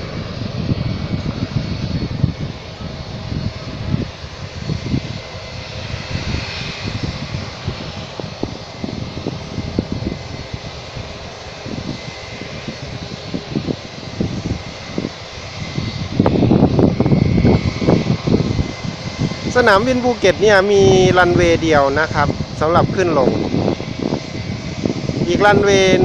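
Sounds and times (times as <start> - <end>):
distant jet engines hissing: 0.0 - 26.0
wind buffeting microphone: 0.0 - 26.0.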